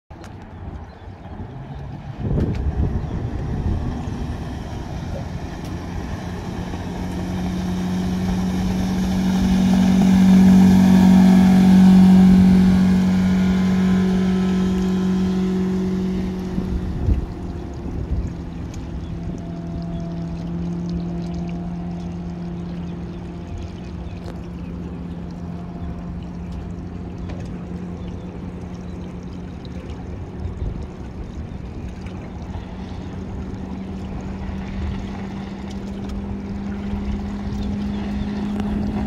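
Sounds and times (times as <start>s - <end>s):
outboard motor boat passing: 0.1s - 39.0s.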